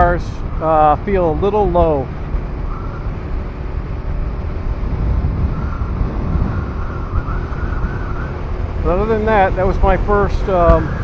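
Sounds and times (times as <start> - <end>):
motorcycle engine running: 0.0 - 11.0
riding noise: 0.0 - 11.0.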